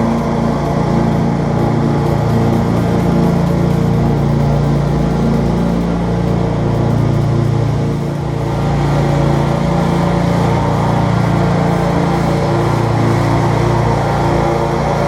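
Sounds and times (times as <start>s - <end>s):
lawn equipment engine running: 0.0s - 15.0s.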